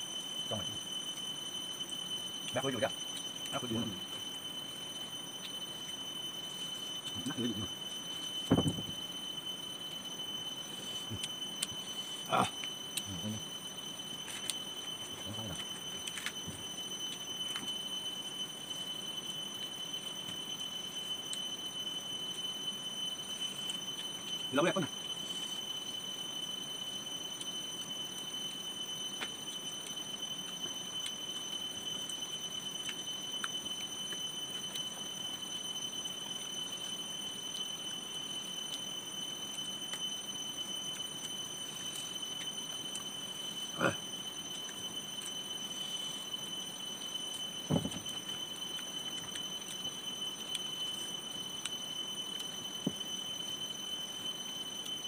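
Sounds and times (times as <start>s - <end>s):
high-pitched whine: 0.0s - 55.0s.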